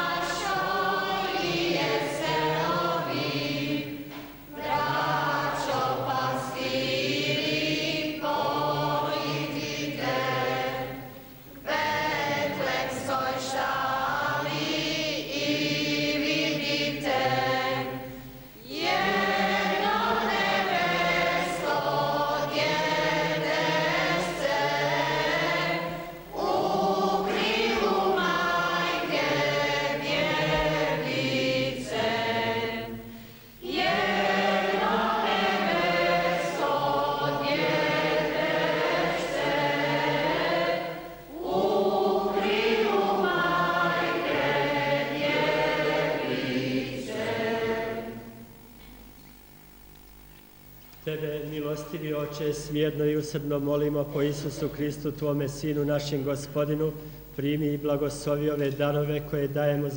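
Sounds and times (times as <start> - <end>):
congregation singing a hymn: 0.0 - 49.2, 51.0 - 59.9.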